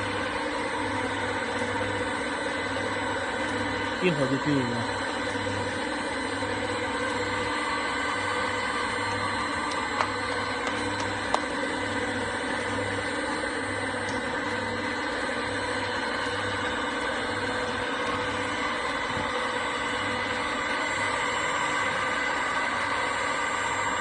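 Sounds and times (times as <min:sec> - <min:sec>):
mixer machine humming: 0:00.0 - 0:24.0.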